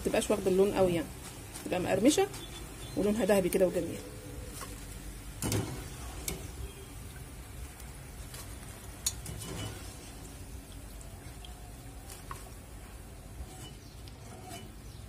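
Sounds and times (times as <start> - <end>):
hot oil sizzling: 0.0 - 15.0.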